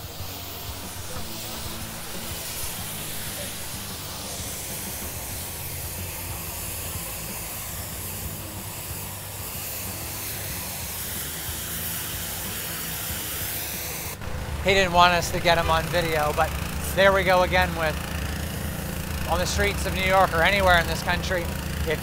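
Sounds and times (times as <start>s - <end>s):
hose spraying water on pavement: 0.0s - 22.0s
low street rumble: 0.0s - 22.0s.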